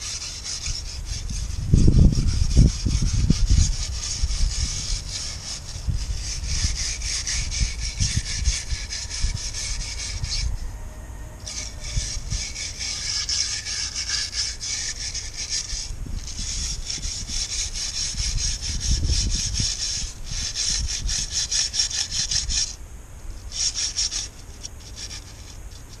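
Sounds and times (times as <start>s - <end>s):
hand tool rasping on metal strip: 0.0s - 10.6s, 11.4s - 22.8s, 23.4s - 26.0s.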